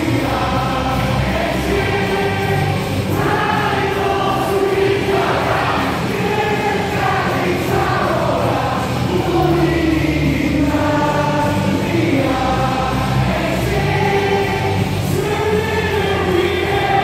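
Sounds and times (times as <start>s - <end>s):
amplified music: 0.0s - 17.0s
crowd singing a cheer song: 0.0s - 17.0s
heavy bass beat: 0.0s - 17.0s.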